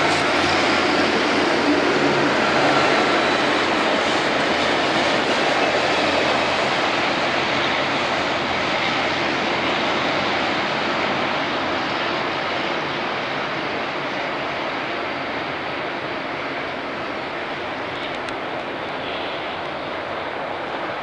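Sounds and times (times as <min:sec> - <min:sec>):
maintenance train mechanical roar: 0:00.0 - 0:21.0.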